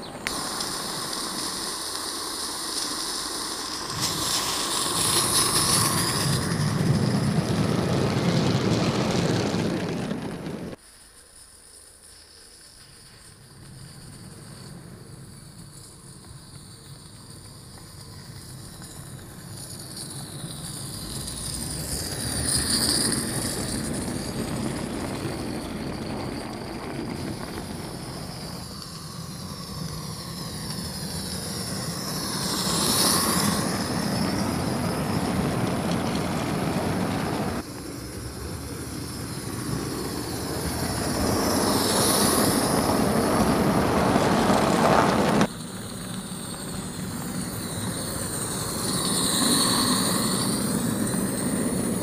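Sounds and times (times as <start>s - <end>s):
model steam locomotive passing: 0.0s - 52.0s.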